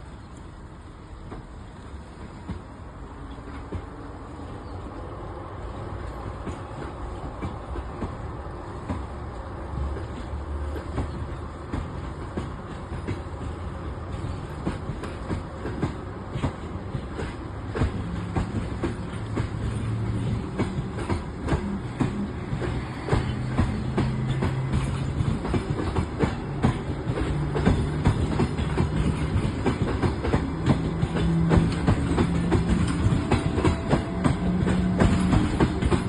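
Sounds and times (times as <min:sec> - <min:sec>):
train wheels clicking over rail joints: 0:00.0 - 0:36.0.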